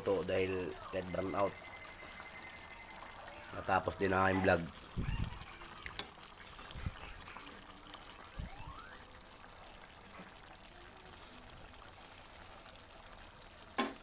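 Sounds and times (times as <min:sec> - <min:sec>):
sauce bubbling and hissing: 0:00.0 - 0:14.0.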